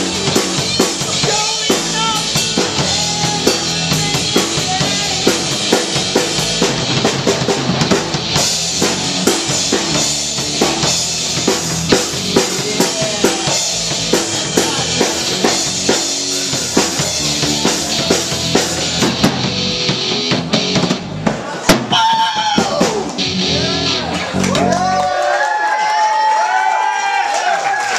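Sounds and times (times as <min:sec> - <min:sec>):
drum kit beat: 0:00.0 - 0:25.0
live rock band playing: 0:00.0 - 0:25.3.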